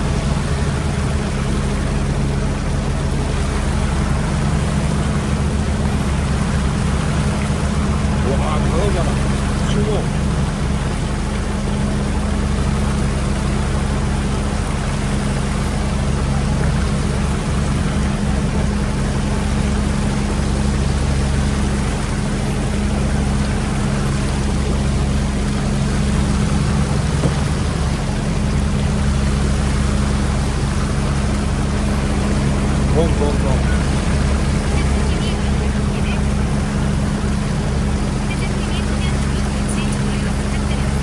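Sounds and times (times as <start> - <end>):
boat engine humming: 0.0 - 41.0
water rushing: 0.0 - 41.0.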